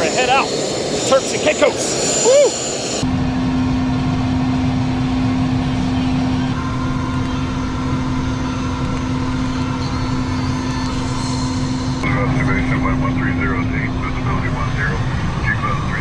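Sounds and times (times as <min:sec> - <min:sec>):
low rumble: 0:00.0 - 0:16.0
machinery hum: 0:00.0 - 0:16.0.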